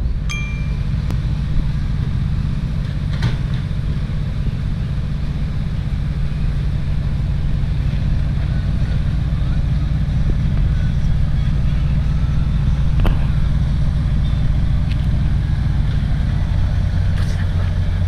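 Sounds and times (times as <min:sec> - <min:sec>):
heavy diesel engines rumbling: 0:00.0 - 0:18.0.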